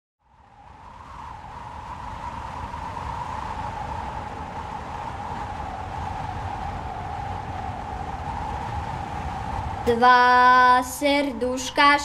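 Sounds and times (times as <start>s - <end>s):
wind whistling over open ground: 0.2s - 12.0s.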